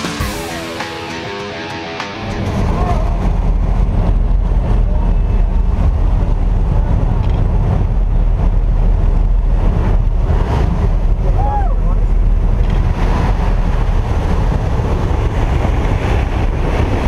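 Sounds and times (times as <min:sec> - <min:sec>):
wind buffeting microphone: 0:02.4 - 0:17.0.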